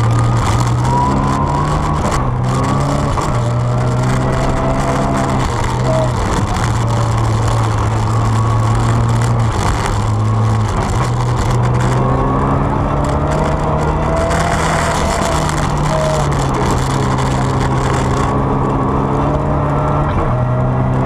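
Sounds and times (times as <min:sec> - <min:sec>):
rally car engine running hard: 0:00.0 - 0:21.0
tyres rumbling on snowy road: 0:00.0 - 0:21.0.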